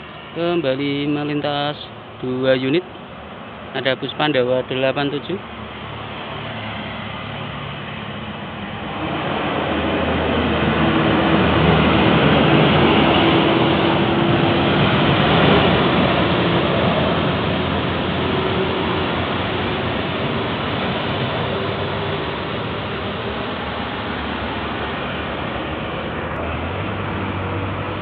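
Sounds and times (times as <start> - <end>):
buses driving past: 0.0 - 28.0.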